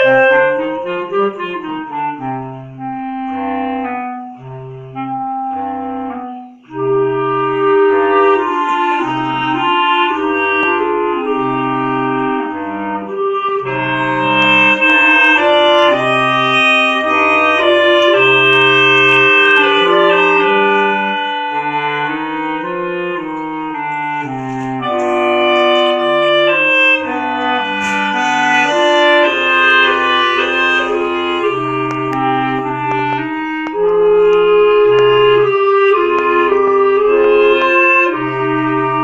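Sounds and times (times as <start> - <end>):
clarinet quartet playing a march: 0.0 - 39.0.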